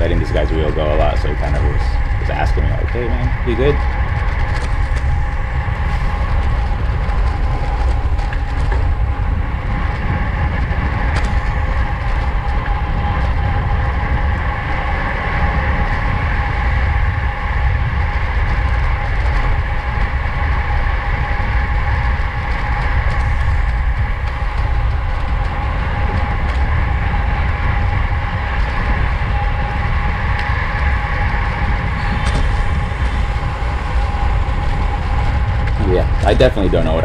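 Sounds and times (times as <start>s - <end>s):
racing bikes whirring: 0.0s - 37.0s
wind rushing over microphone: 0.0s - 37.0s.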